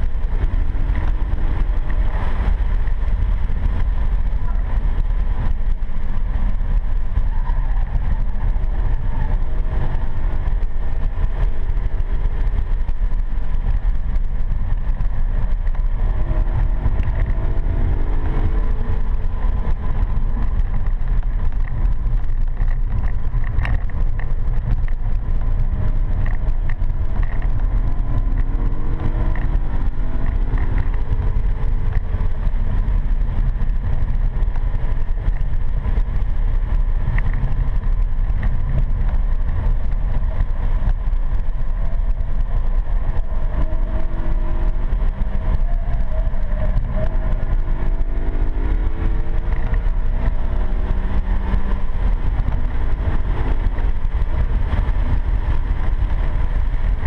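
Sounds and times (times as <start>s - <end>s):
car engine under acceleration: 0.0s - 57.0s
road noise inside cabin: 0.0s - 57.0s.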